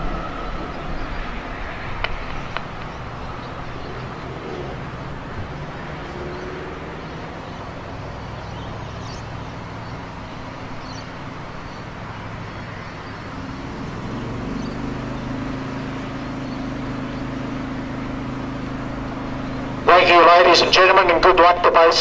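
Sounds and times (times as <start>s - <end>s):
background rush: 0.0s - 22.0s
higher engine tone: 0.0s - 22.0s
steady engine hum: 0.0s - 22.0s.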